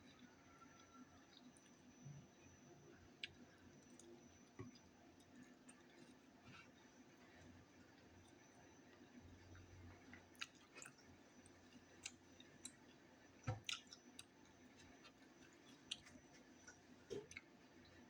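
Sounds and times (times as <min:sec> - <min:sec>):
faint wet chewing: 0:02.9 - 0:18.0.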